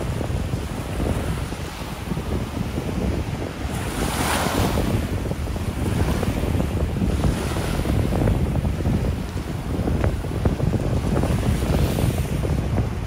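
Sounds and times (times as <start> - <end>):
waves breaking on beach: 0.0 - 13.0
wind buffeting microphone: 0.0 - 13.0.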